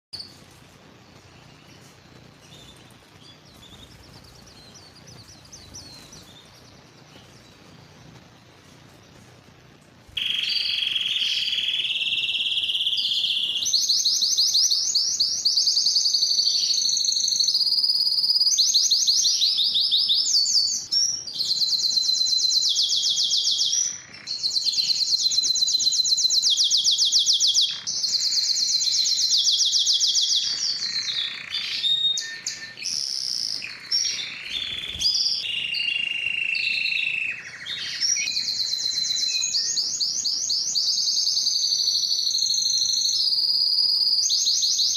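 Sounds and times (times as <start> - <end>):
canary singing trills: 0.2 - 44.9.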